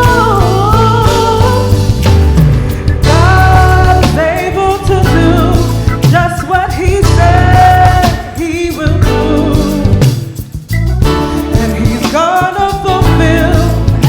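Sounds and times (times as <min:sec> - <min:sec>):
bass line: 0:00.0 - 0:14.0
drums: 0:00.0 - 0:14.0
gospel singers: 0:00.0 - 0:14.0.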